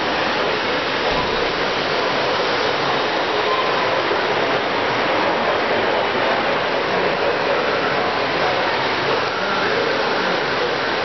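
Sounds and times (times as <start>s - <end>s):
model train running: 0.0s - 11.0s
steady rushing hall noise: 0.0s - 11.0s.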